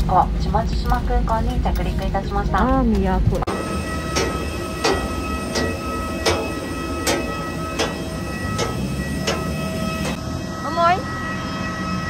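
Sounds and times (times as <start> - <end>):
jet airliner whine: 0.0 - 12.0.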